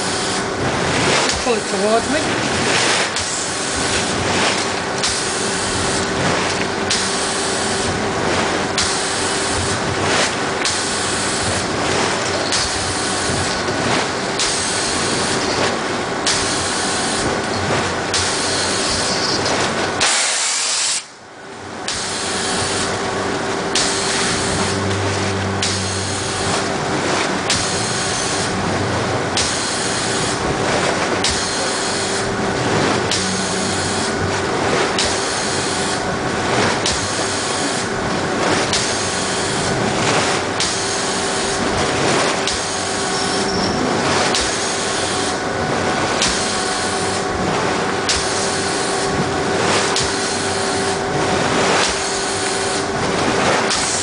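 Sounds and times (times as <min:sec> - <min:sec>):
air pulses bubbling and splashing: 0:00.0 - 0:54.0
steady hum: 0:00.0 - 0:54.0.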